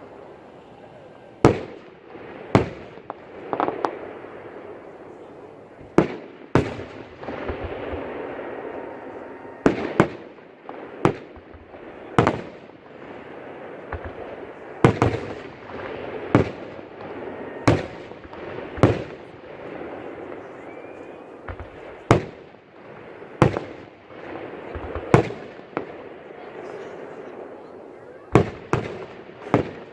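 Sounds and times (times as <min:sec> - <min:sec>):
fireworks bursting with sharp bangs: 0:00.0 - 0:29.9.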